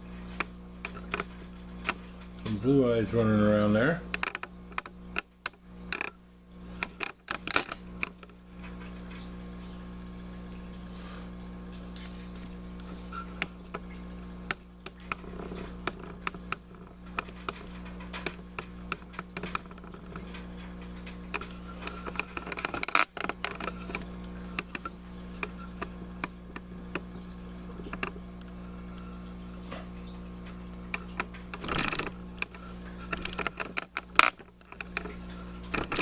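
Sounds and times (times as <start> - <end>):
aquarium equipment hum: 0.0 - 36.0
faint water sounds: 0.0 - 36.0.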